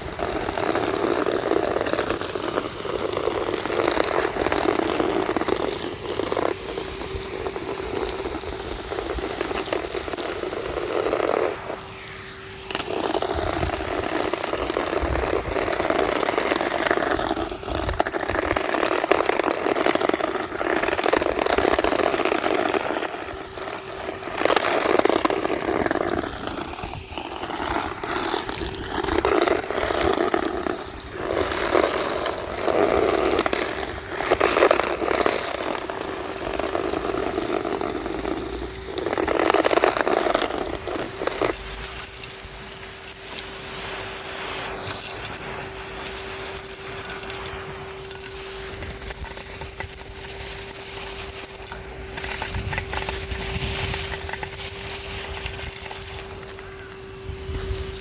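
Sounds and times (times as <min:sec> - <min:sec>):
debris rattling in vacuum nozzle: 0:00.0 - 0:58.0
vacuum cleaner motor humming: 0:00.0 - 0:58.0.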